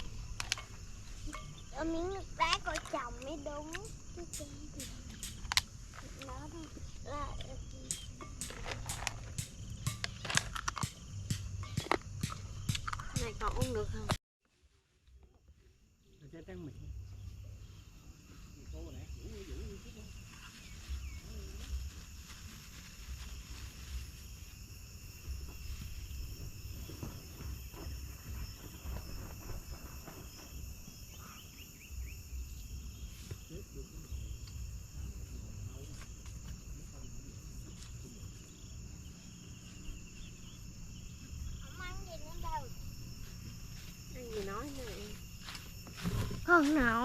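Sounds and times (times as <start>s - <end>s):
insects chorus shrilling: 0.0s - 14.1s, 15.6s - 47.0s.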